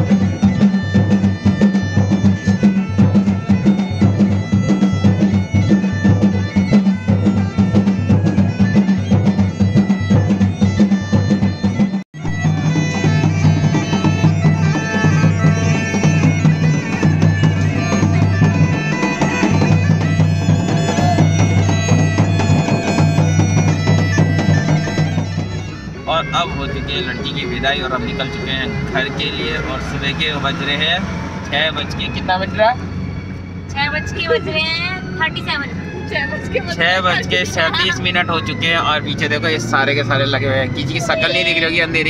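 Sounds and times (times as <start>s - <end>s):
bagpipe melody over drone: 0.0s - 42.0s
drumming: 0.0s - 42.0s.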